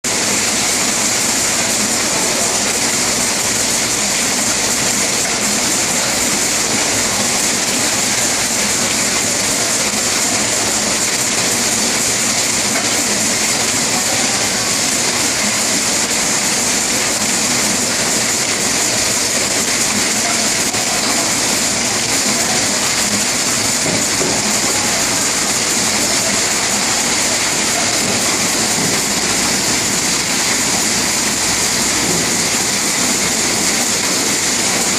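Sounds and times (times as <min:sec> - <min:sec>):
packaging machine running: 0:00.1 - 0:34.9.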